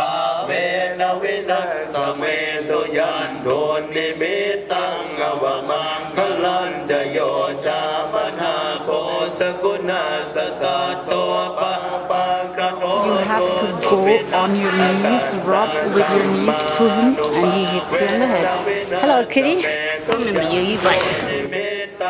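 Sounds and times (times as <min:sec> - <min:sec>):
group of voices chanting: 0:00.0 - 0:22.0.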